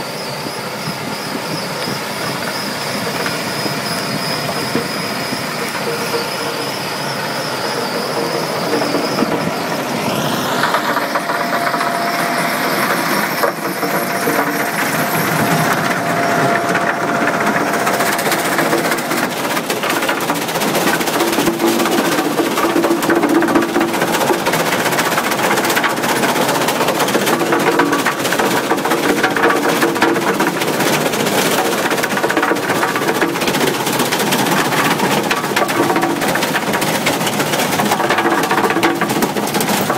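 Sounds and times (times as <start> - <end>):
screening machine engine din: 0.0 - 39.9.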